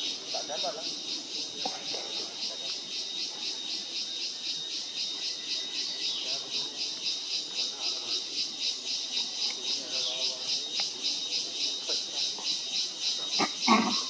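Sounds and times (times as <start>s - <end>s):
insect chorus pulsing: 0.0s - 14.0s.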